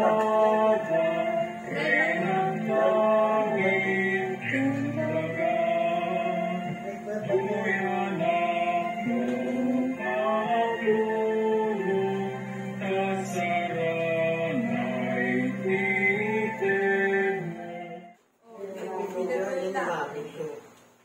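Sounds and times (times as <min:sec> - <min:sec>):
voices singing a hymn: 0:00.0 - 0:18.2.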